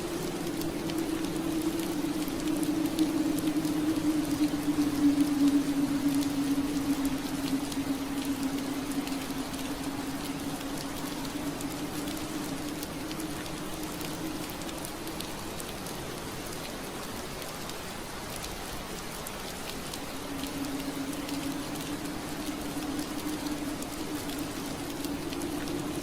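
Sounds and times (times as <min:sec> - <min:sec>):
rain pattering on window glass: 0:00.0 - 0:26.0.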